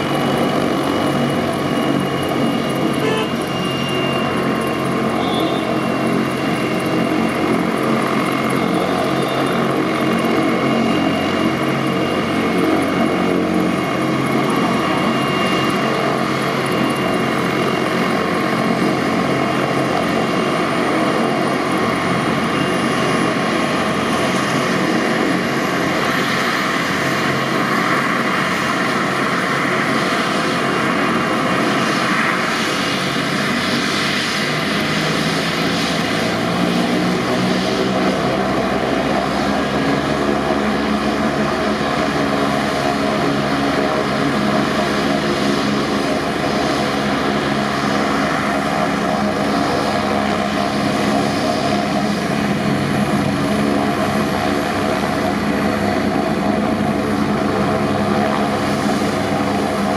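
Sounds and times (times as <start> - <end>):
helicopter rotor noise: 0.0 - 59.9
helicopter turbine whine: 0.0 - 59.9.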